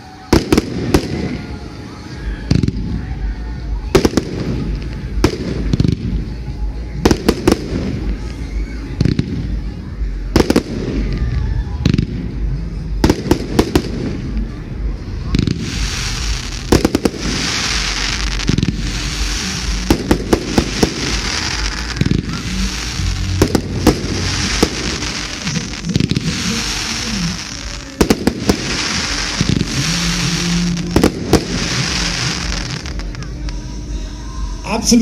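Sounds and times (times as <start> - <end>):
firework hiss: 0.0 - 34.6
firework bangs: 0.2 - 3.1, 3.7 - 14.6, 15.2 - 33.7.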